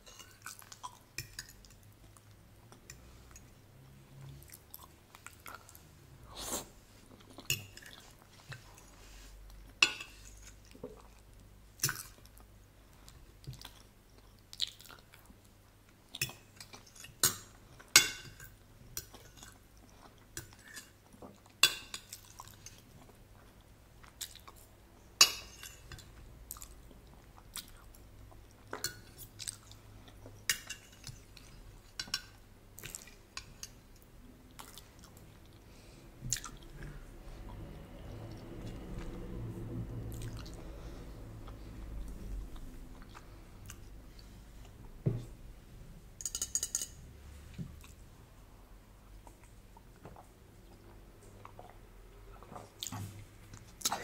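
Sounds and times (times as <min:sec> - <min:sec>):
close chewing and mouth smacks: 0:00.0 - 0:03.5, 0:04.1 - 0:05.9, 0:07.1 - 0:24.8, 0:25.9 - 0:45.0, 0:49.1 - 0:54.0.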